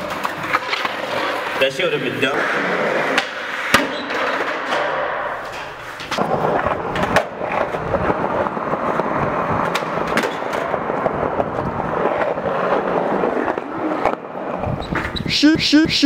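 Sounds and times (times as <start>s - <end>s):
skateboard clacks: 0.0s - 1.6s, 2.4s - 15.1s
skateboard wheels rolling on tiles: 0.0s - 15.3s.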